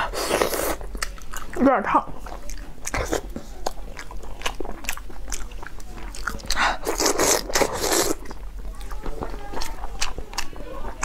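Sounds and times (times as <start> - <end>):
close-up eating sounds: 0.0 - 11.0.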